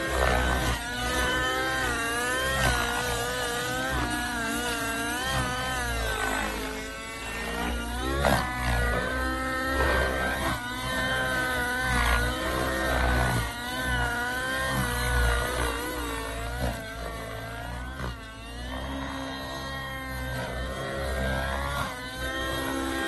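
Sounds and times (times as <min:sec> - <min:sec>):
model helicopter engine running: 0:00.0 - 0:23.0.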